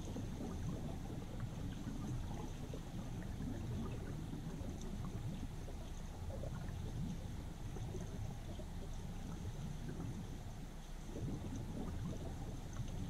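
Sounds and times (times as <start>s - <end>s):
faint scattered ticks: 0.0s - 13.0s
underwater river flow rumble: 0.0s - 13.0s.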